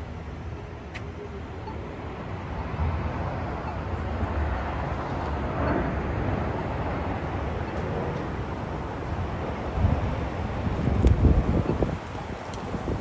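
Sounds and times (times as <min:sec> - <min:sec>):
street noise rumble: 0:00.0 - 0:13.0.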